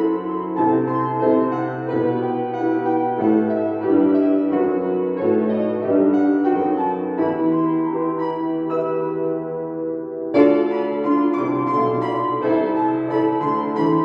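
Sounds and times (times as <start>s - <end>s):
solo instrumental melody: 0.0s - 14.0s.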